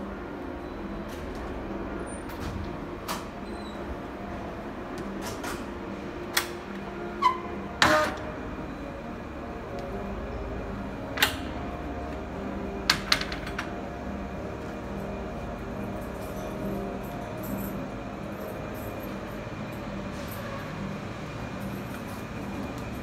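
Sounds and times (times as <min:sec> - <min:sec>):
steady platform hum: 0:00.0 - 0:23.0
train drawing into station: 0:00.0 - 0:23.0.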